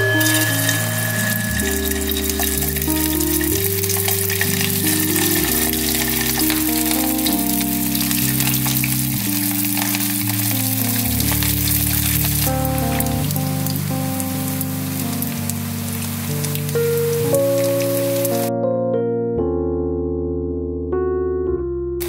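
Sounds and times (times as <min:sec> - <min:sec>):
rice deep-frying in oil: 0:00.0 - 0:18.5
background music sustained notes: 0:00.0 - 0:22.0.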